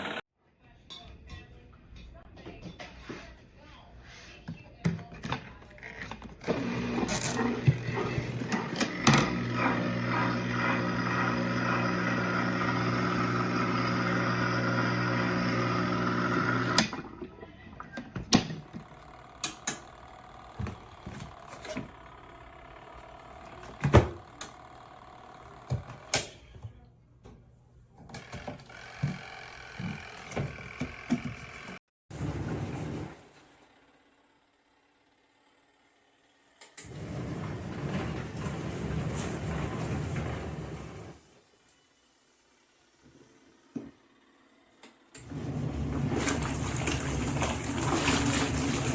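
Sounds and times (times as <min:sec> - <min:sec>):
washing machine motor humming: 0:00.0 - 0:00.2, 0:06.4 - 0:26.3, 0:28.1 - 0:41.6, 0:42.6 - 0:48.9.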